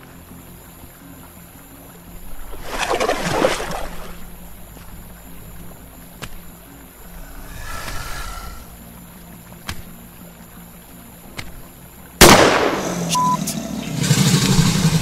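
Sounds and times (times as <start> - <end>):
low ambient drone: 0.0 - 15.0.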